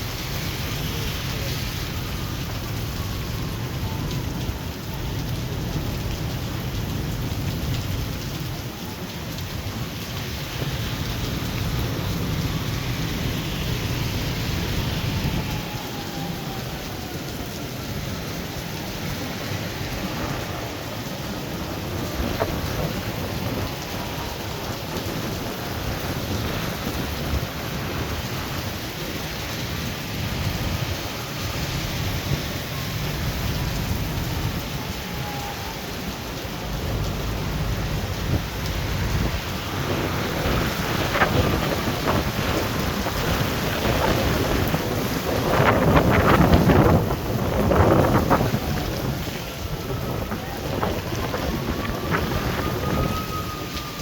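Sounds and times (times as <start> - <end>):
heavy rain pouring: 0.0 - 54.0
low rumbling thunder: 0.0 - 54.0.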